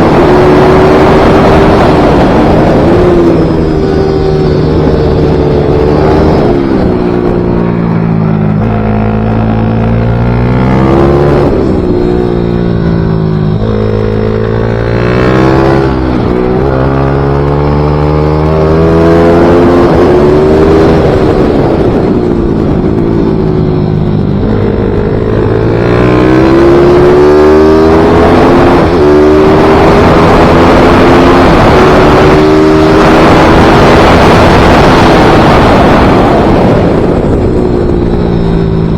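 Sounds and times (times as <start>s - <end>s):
motorcycle engine revving: 0.0s - 38.9s
wind on microphone: 0.0s - 38.9s.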